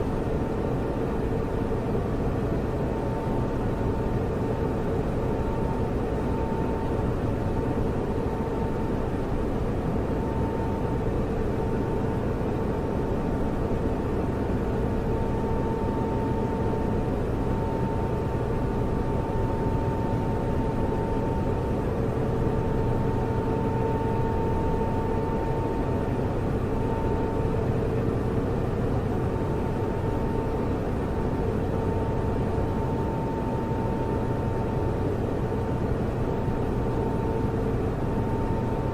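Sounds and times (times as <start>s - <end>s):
cooling fans whirring: 0.0s - 38.9s.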